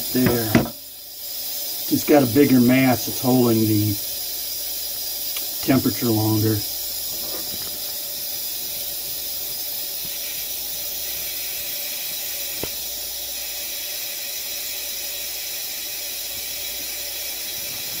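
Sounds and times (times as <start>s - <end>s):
water running from sink tap: 0.0s - 18.0s.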